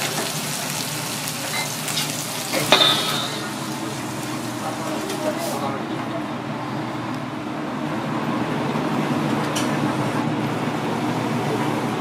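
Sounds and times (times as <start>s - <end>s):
ventilation hum with hiss: 0.0s - 12.0s.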